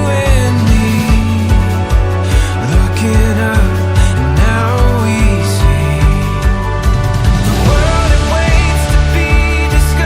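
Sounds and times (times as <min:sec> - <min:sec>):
held bass: 0:00.0 - 0:10.0
gliding melody line: 0:00.5 - 0:10.0.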